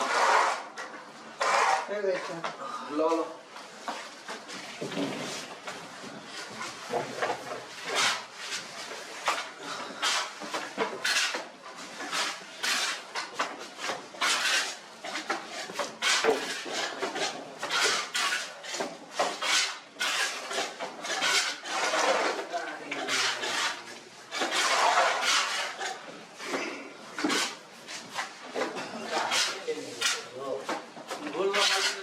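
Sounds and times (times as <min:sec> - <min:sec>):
trowel scraping mortar: 0:00.0 - 0:02.4, 0:06.4 - 0:32.0.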